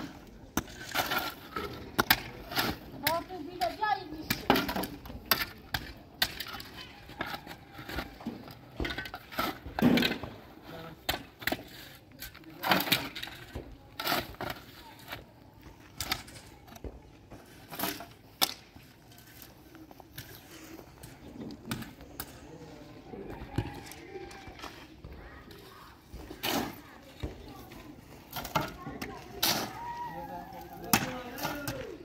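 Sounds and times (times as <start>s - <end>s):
voices: 0.0s - 32.0s.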